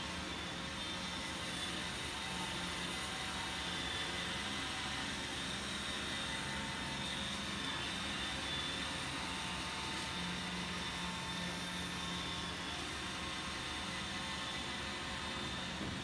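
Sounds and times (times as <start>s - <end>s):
robot vacuum and fans whirring: 0.0s - 16.0s.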